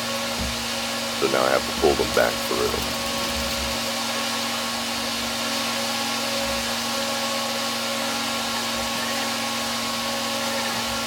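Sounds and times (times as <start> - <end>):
machine drone with whine: 0.0 - 11.0.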